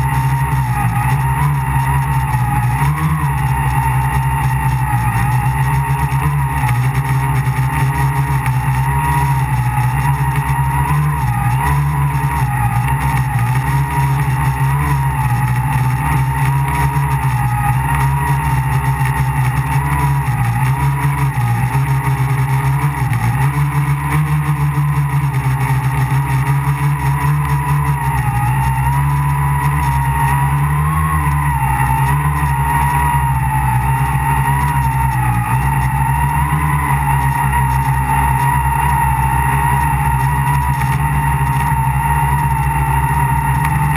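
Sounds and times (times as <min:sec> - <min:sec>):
drone motors and propellers whining: 0:00.0 - 0:43.9.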